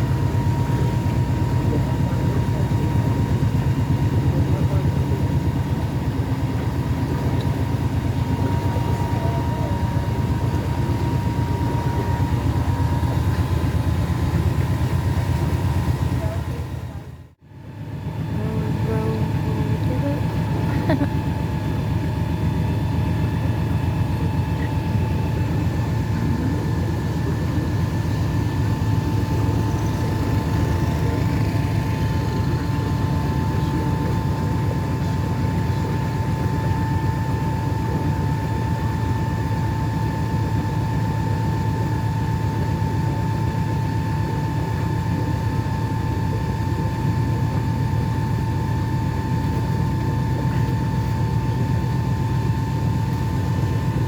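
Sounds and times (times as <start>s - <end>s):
boat engine drone with whine: 0.0s - 54.0s.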